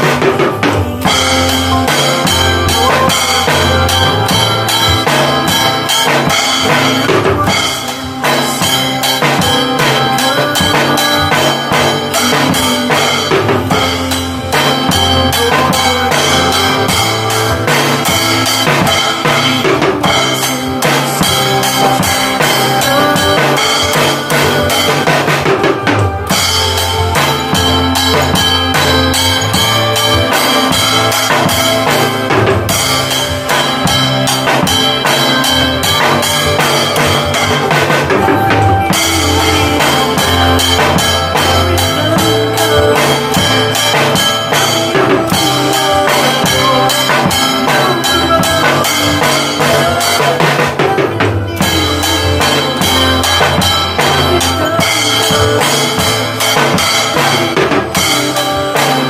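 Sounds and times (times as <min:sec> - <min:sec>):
drum kit beat: 0:00.0 - 0:59.0
recorded worship song: 0:00.0 - 0:59.0.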